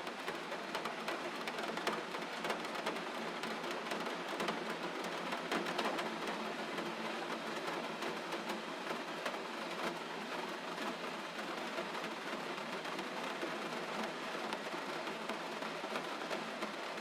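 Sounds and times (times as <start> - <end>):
gentle rain falling: 0.0 - 17.0.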